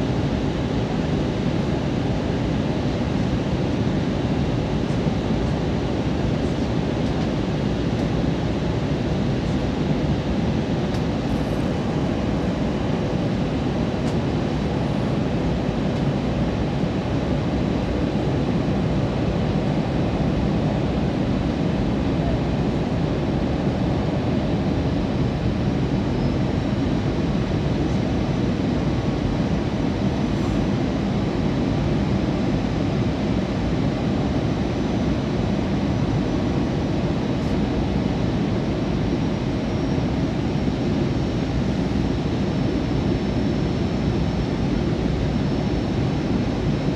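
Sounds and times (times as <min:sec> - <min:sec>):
airplane cabin engine rush: 0:00.0 - 0:46.9
faint steady whine: 0:00.0 - 0:46.9.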